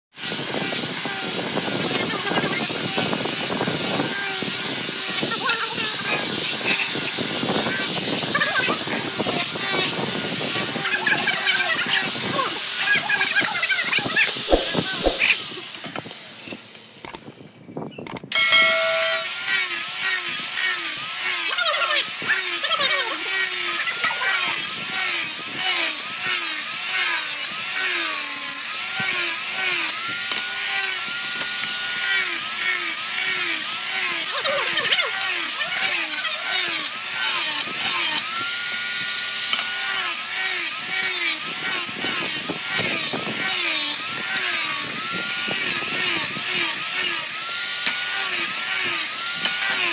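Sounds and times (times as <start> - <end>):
angle grinder sanding wood: 0.2 - 16.7, 18.4 - 49.9.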